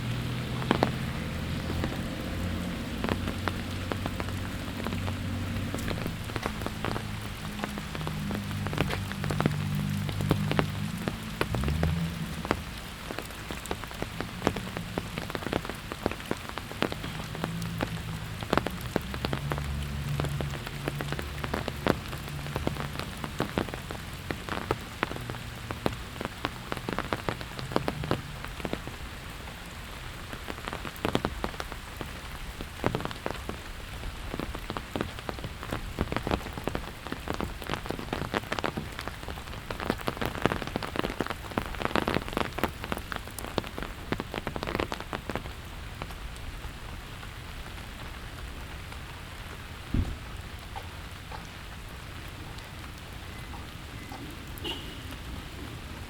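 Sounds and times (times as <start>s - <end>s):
raindrops tapping close by: 0.0s - 56.0s
steady rain falling: 0.0s - 56.0s.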